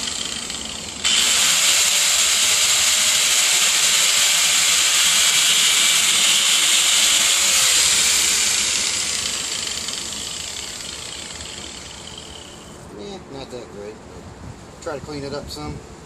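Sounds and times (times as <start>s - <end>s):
angle grinder cutting plastic pipe: 0.0s - 12.9s.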